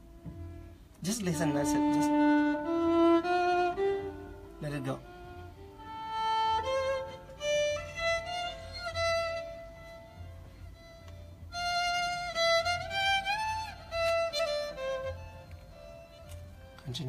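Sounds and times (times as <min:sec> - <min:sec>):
solo violin slow melody: 0:00.0 - 0:17.0.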